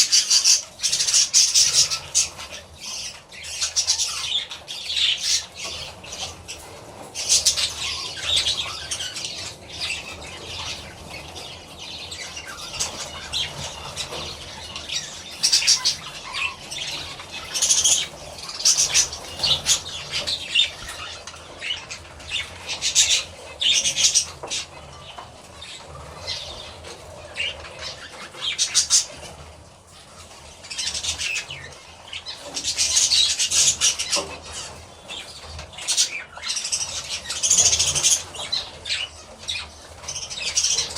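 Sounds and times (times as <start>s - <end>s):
budgerigars chattering: 0.0s - 40.9s
high-pitched bird calls: 0.0s - 40.9s.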